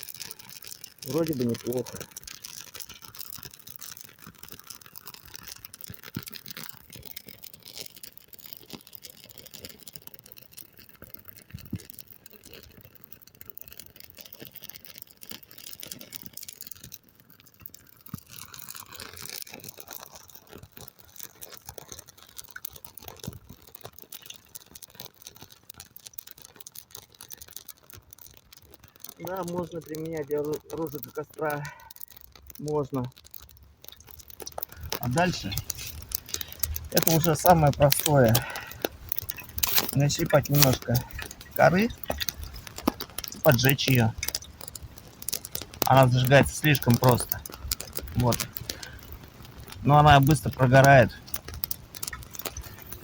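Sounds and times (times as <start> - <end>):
tinder burning and crackling: 0.0 - 53.0.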